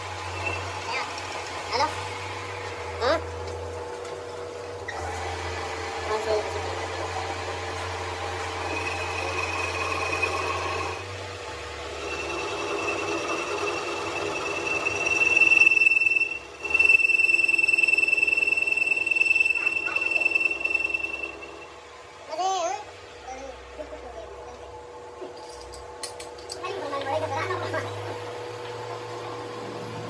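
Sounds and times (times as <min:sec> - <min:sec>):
machine high-pitched whine: 0:00.0 - 0:30.0
machine low hum: 0:00.0 - 0:30.0.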